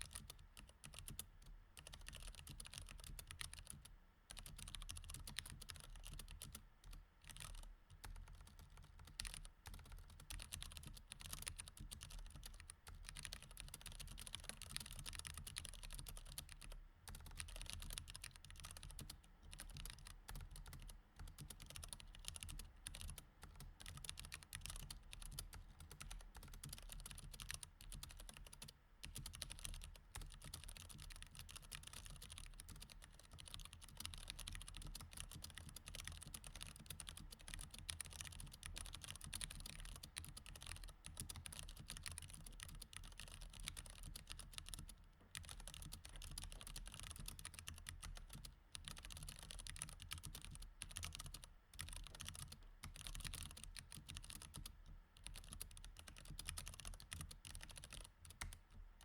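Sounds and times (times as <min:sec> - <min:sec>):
fast typing on mechanical keyboard: 0:00.0 - 0:58.6.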